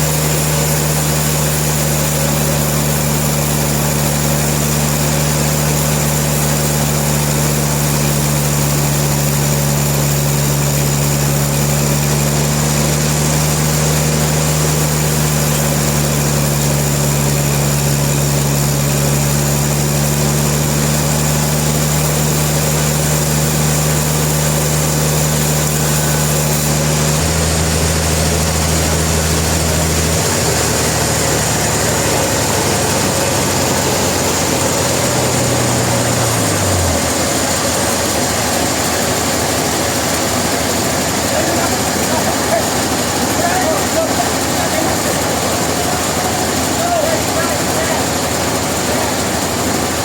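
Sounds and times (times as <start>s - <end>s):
loud hiss: 0.0s - 49.1s
sawmill engine humming: 0.0s - 50.0s.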